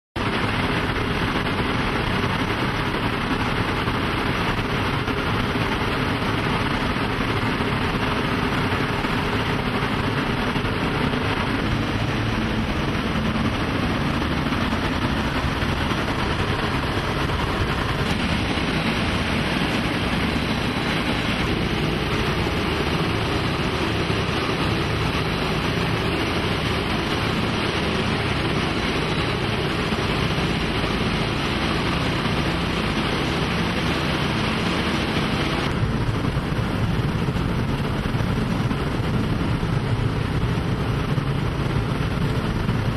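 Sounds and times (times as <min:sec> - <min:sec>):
propeller engines droning: 0:00.2 - 0:42.9
rushing airflow: 0:00.2 - 0:42.9.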